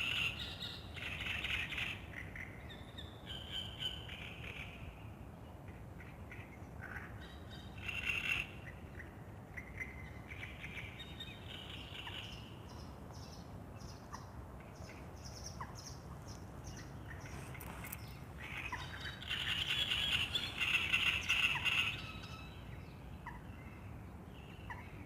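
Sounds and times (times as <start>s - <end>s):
songbirds chirping and singing: 0.0s - 25.0s.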